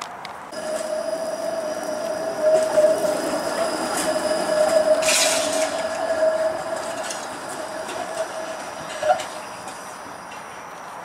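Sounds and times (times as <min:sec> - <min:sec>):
streetcar rumble: 0:00.5 - 0:11.0
streetcar wheels squealing on rails: 0:00.5 - 0:11.0.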